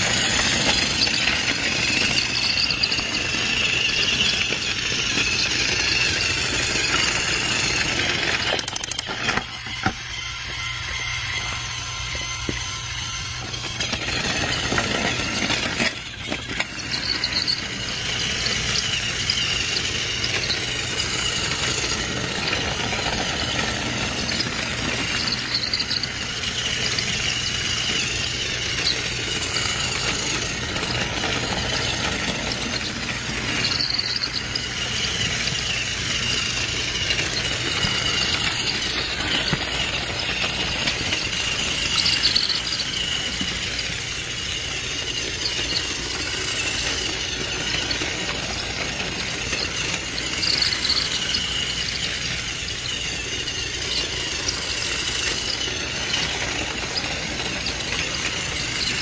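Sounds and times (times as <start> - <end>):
small electric motor whining: 0.0 - 59.0.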